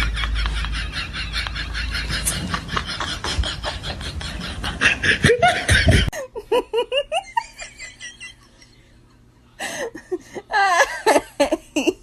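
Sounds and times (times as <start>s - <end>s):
person giggling: 0.0s - 8.7s, 9.6s - 12.0s.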